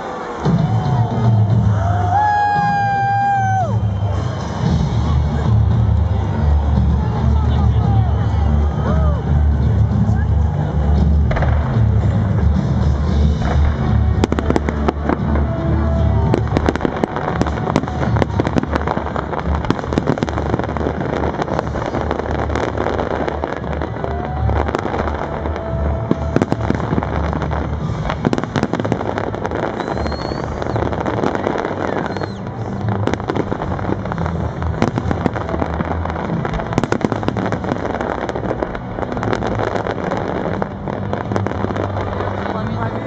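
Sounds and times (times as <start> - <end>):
fireworks bangs and crackles: 0.0 - 43.0
loud music with heavy bass: 0.5 - 43.0.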